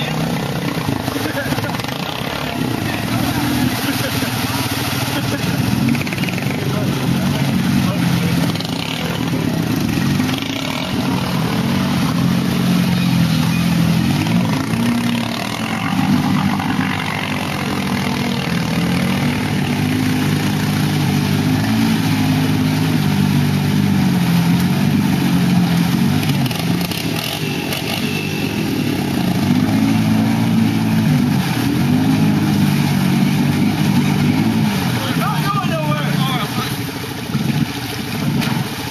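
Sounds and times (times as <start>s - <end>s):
atv engine revving: 0.0s - 38.9s
churning through mud and water: 0.0s - 38.9s.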